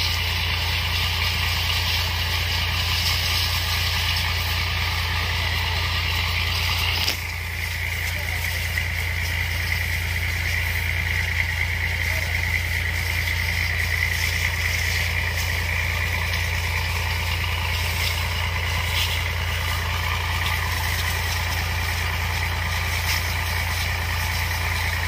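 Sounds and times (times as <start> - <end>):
power sprayer engine running: 0.0 - 25.0.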